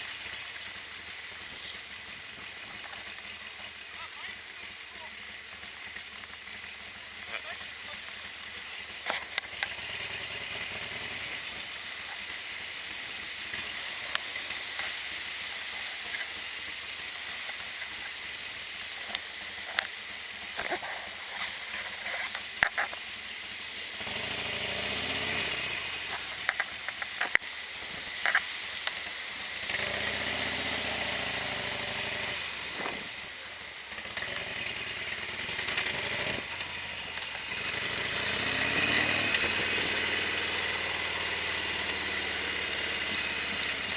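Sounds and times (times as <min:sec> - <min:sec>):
motorcycle engine running: 0:00.0 - 0:43.9
steady hiss: 0:00.0 - 0:43.9.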